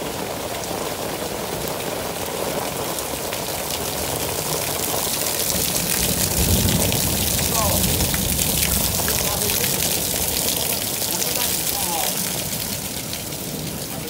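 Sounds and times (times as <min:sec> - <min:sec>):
heavy rain on pavement: 0:00.0 - 0:14.0
water streaming off roof splashing: 0:00.0 - 0:14.0.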